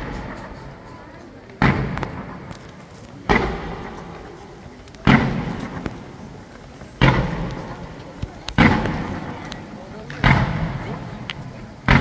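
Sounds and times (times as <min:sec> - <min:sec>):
faint firework crackles: 0:00.0 - 0:12.0
firework shells booming: 0:01.5 - 0:12.0.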